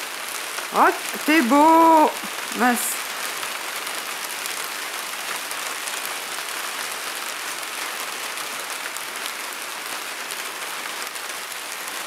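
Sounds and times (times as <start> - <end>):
steady rain on leaves: 0.0 - 12.0.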